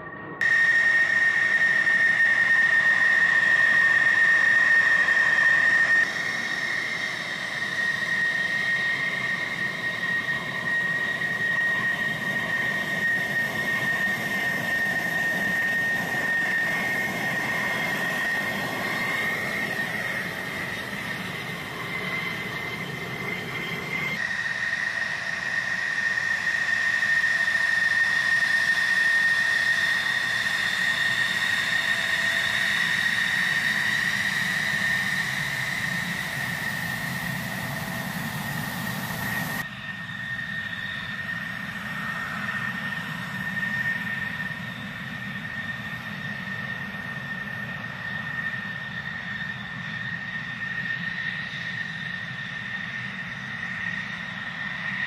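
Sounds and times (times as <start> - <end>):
jet engine whine and rumble: 0.0 - 55.0.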